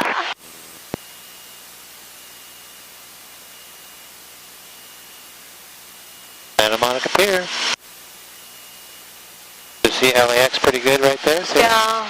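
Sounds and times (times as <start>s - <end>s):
intercom static hiss: 0.0s - 12.0s.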